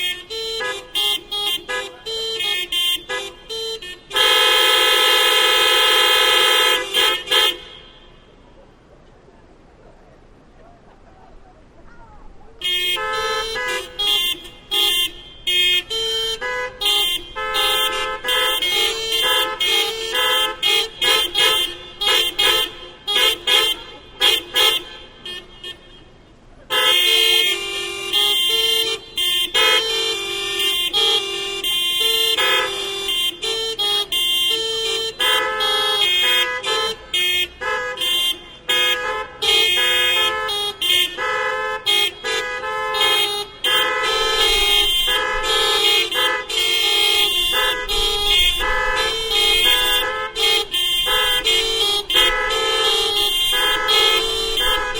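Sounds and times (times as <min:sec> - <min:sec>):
car horns honking in rhythm: 0:00.0 - 0:08.6, 0:12.6 - 0:54.9.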